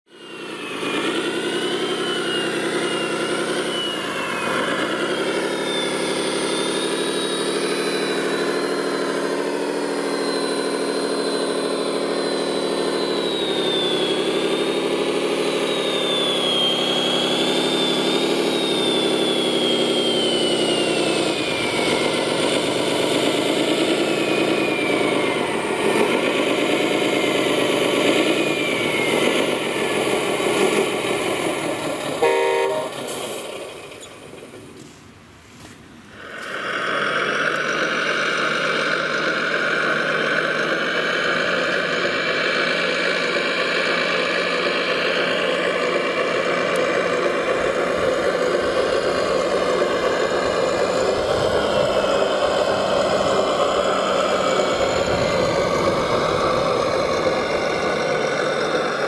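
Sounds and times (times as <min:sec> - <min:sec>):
thin high motor whine: 0:00.1 - 0:34.9, 0:36.1 - 0:59.0
model wheel loader engine drone: 0:00.1 - 0:59.0.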